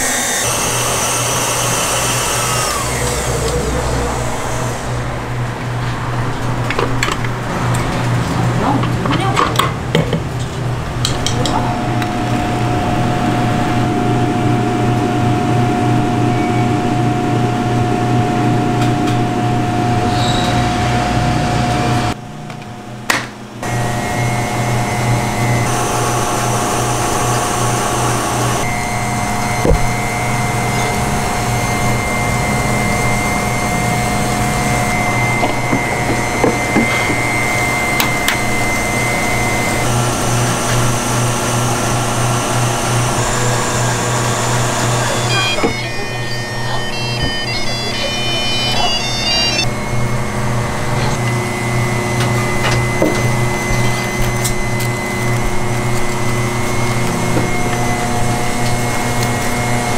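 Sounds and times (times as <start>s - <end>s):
electric motor humming and whining: 0.0s - 5.5s, 11.5s - 22.2s, 23.6s - 59.9s.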